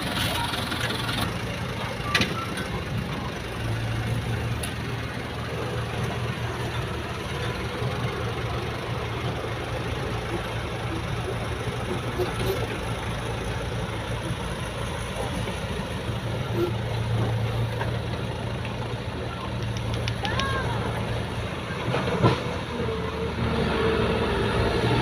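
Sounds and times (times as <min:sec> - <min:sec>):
diesel engine idling: 0:00.0 - 0:23.5.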